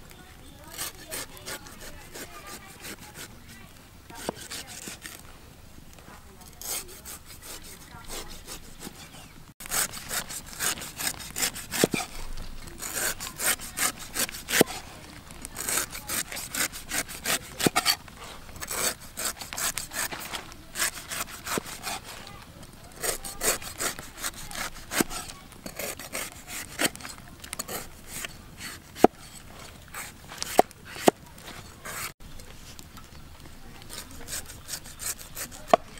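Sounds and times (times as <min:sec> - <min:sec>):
cleaver slicing fruit rind: 0:00.6 - 0:05.2, 0:06.4 - 0:32.8, 0:33.7 - 0:35.9.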